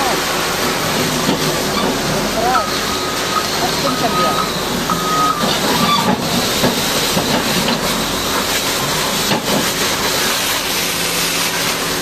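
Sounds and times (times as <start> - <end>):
water jet spraying machinery: 0.0 - 12.0.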